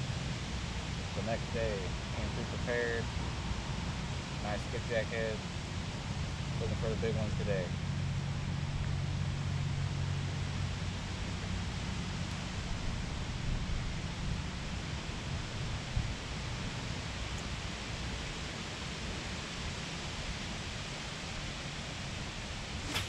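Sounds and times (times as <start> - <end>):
riverside rushing noise: 0.0 - 23.0.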